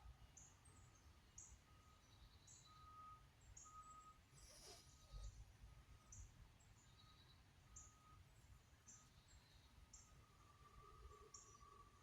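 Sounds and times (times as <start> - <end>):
bird chirping: 0.3 - 5.4, 6.0 - 12.0.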